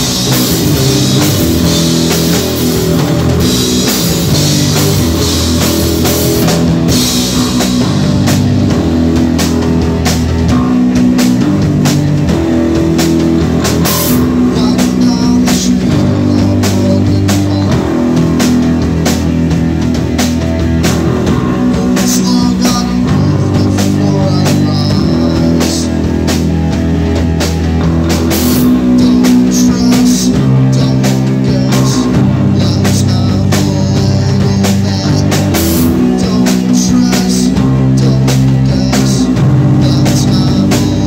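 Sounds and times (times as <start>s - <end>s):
drum kit: 0.0s - 41.0s
electric guitars: 0.0s - 41.0s.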